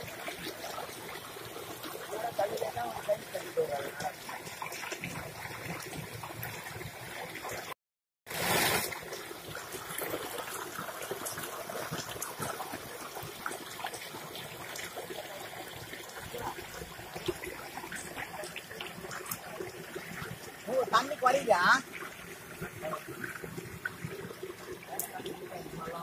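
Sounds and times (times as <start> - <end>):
stream water splashing over rocks: 0.0 - 26.0.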